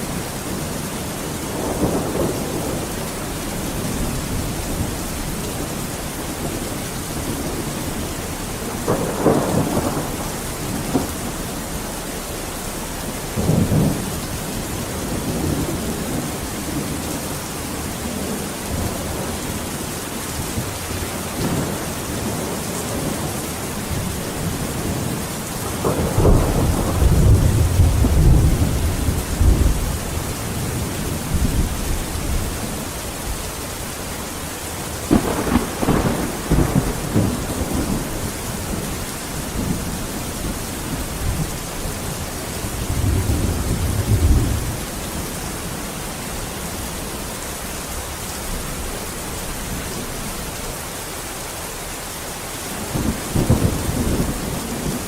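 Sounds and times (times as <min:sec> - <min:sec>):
rolling thunder: 0:00.0 - 0:50.6, 0:52.7 - 0:55.0
heavy rain: 0:00.0 - 0:55.0.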